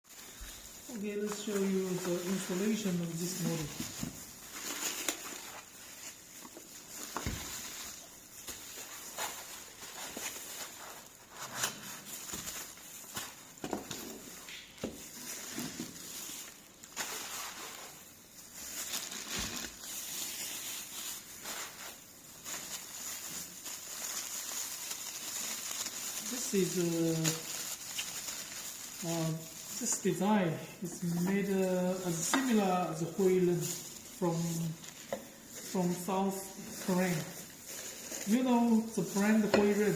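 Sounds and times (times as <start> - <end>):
objects clicking and rustling: 0.1 - 39.9.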